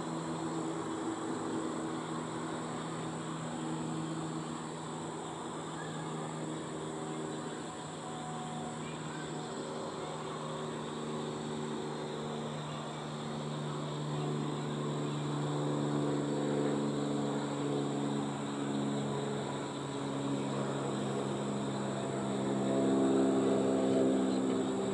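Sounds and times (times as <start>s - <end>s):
motor engine droning: 0.0s - 24.9s.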